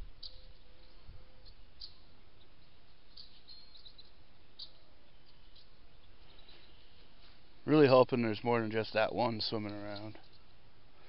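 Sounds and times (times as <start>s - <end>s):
small birds chirping: 0.0s - 11.0s
steady outdoor hiss: 0.0s - 11.0s.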